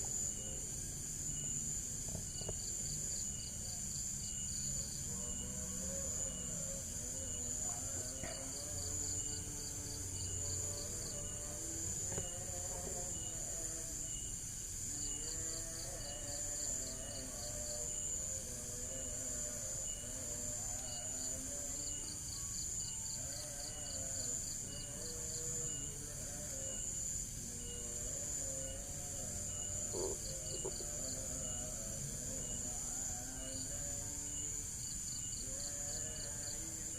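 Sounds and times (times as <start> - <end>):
insects droning: 0.0 - 36.9
rapid trilled insect pulses: 0.0 - 36.9
ticking insect chirp: 0.0 - 36.9.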